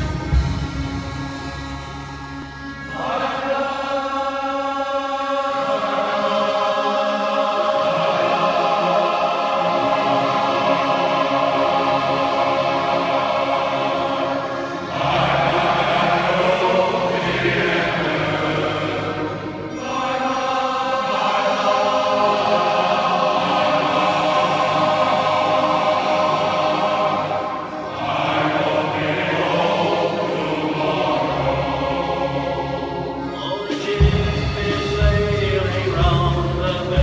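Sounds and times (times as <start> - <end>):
male choir singing in harmony: 0.0 - 37.0.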